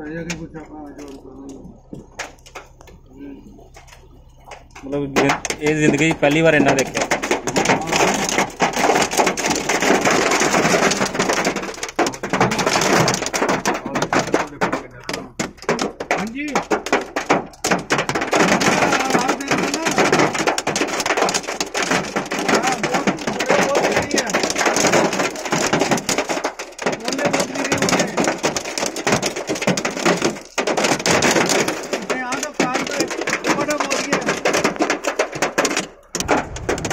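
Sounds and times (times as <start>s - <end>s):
hail and rain on car roof: 0.0s - 36.9s.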